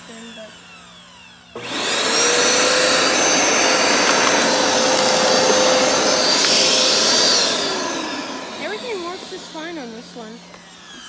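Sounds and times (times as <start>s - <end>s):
carpet cleaner suction motor whine: 0.0s - 11.0s.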